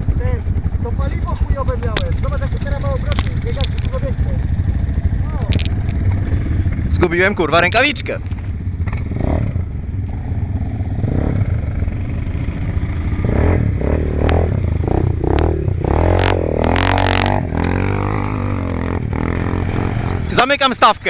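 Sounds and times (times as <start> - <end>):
quad bike engines droning: 0.0 - 21.0.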